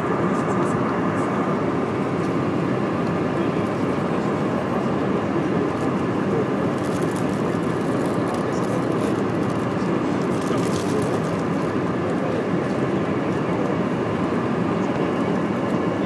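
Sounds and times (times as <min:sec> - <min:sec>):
airliner cabin engine noise: 0:00.0 - 0:16.0.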